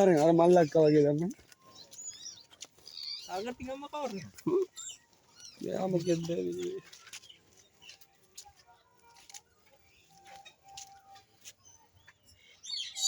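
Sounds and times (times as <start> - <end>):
bird calls and chirps: 0.0 - 13.0.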